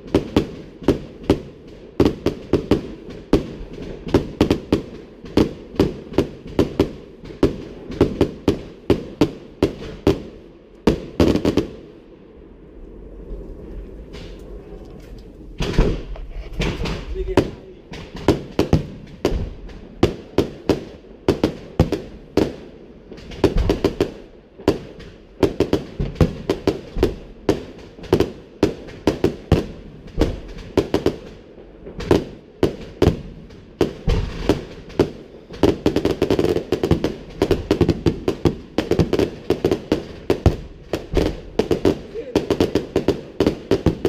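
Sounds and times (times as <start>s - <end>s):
crackling firework bursts: 0.0s - 44.0s
fireworks exploding: 0.0s - 44.0s.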